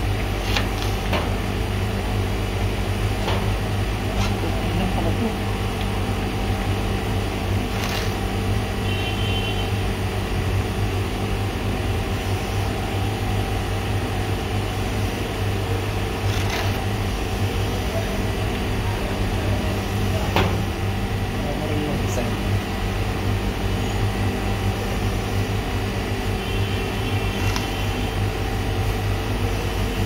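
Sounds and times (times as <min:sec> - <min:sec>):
batch freezer humming: 0:00.0 - 0:30.0.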